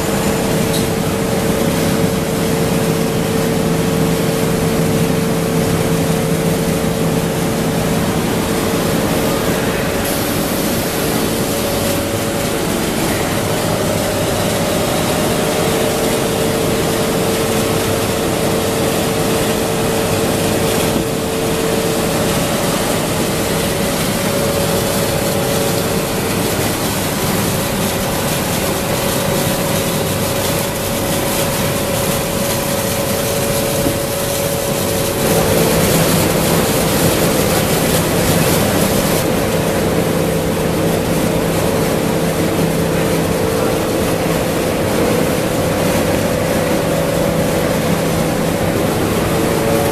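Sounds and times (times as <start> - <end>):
machine humming: 0.0 - 49.9
machine whine: 0.0 - 49.9.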